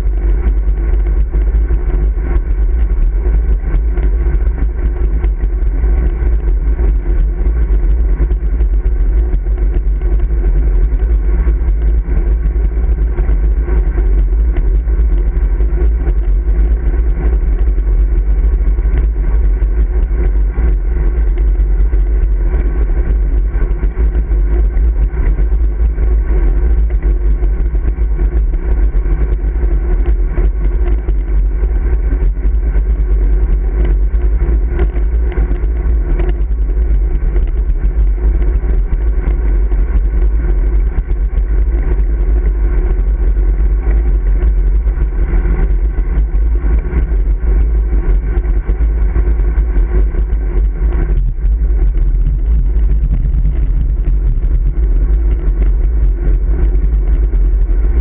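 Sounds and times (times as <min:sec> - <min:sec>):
road vibration: 0:00.0 - 0:58.0
wind rumble: 0:00.0 - 0:58.0.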